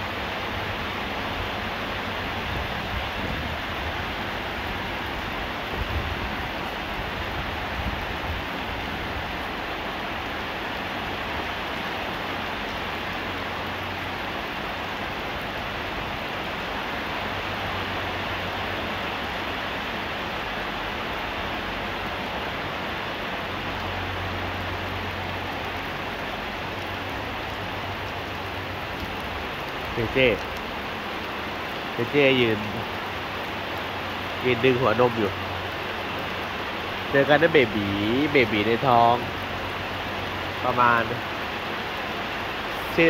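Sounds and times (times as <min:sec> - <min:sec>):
electric fan wind rushing: 0:00.0 - 0:43.0
heavy rain on a shed roof: 0:00.0 - 0:43.0.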